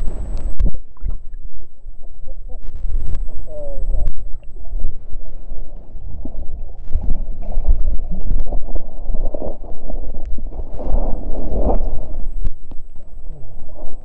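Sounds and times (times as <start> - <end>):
water sloshing and gurgling: 0.0 - 14.0.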